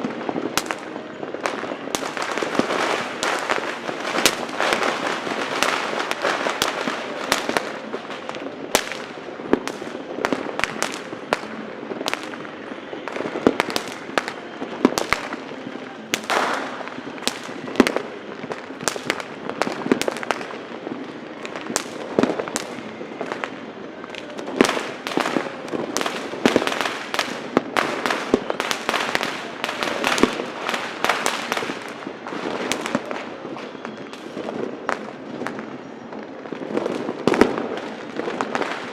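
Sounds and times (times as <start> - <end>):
firecrackers crackling: 0.0 - 38.9
fireworks banging: 0.0 - 38.9.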